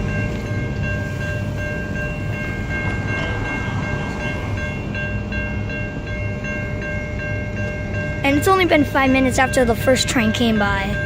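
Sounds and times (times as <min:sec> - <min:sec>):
railroad crossing bell ringing: 0:00.0 - 0:11.0
train rumbling: 0:00.0 - 0:11.0.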